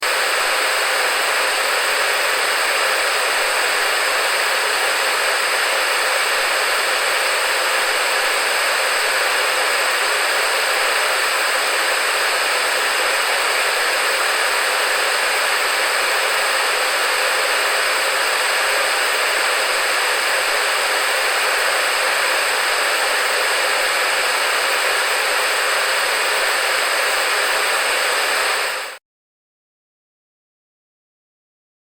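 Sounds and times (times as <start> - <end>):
television static hiss: 0.2 - 29.0.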